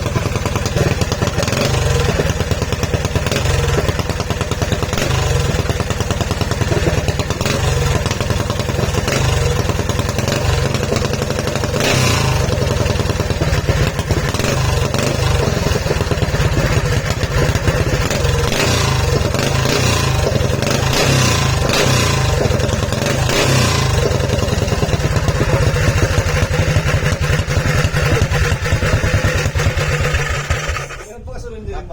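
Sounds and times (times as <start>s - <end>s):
high-pitched rattle: 0.0s - 31.2s
engine running steadily: 0.0s - 31.3s.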